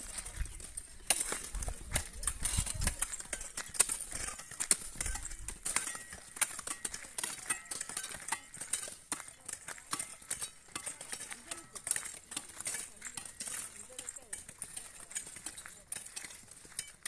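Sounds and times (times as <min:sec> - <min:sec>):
hoes scraping hard soil: 0:00.0 - 0:17.0.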